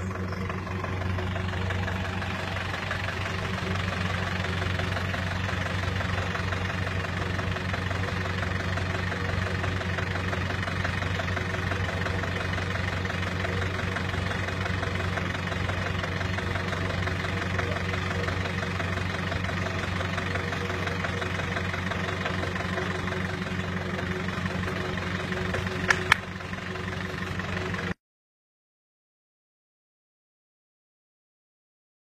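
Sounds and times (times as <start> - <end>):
van engine idling: 0.0 - 28.0.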